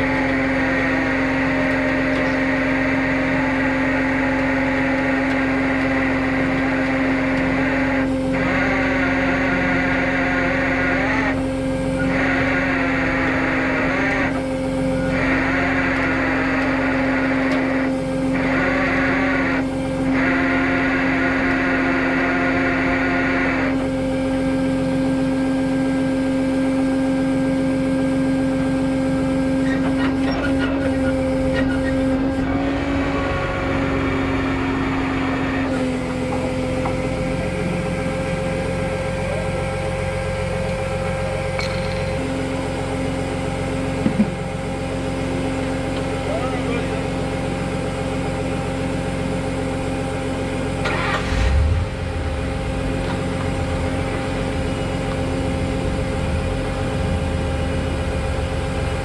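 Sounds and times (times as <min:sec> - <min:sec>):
truck engine humming: 0:00.0 - 0:59.0.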